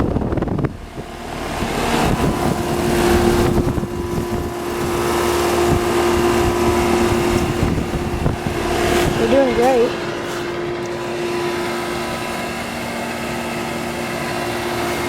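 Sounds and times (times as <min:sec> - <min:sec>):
air conditioner units humming: 0:00.0 - 0:15.0
wind rumbling on microphone: 0:00.0 - 0:15.0.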